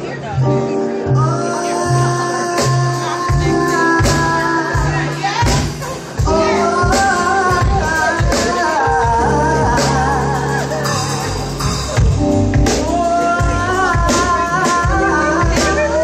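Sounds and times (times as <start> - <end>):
keyboard chords: 0.0 - 16.0
drum kit beat: 1.2 - 16.0
woman singing into microphone: 1.2 - 16.0.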